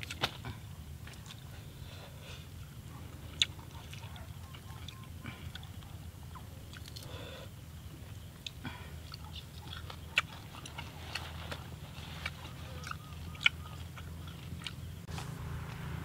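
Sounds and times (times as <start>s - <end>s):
person chewing food: 0.0s - 7.2s, 7.8s - 14.9s
low hum: 0.0s - 16.0s.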